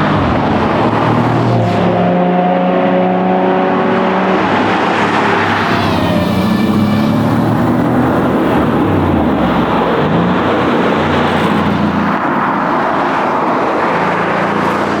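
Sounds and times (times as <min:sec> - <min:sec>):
car engine revving under load: 0:00.0 - 0:15.0.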